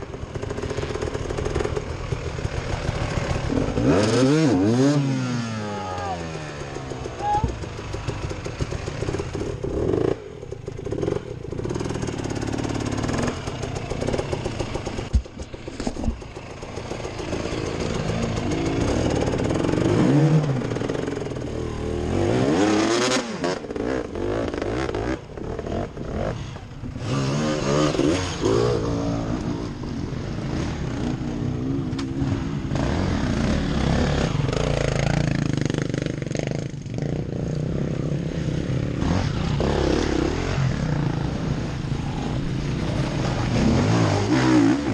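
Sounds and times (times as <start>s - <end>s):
dirt bike engine revving: 0.3s - 15.1s, 16.4s - 44.9s.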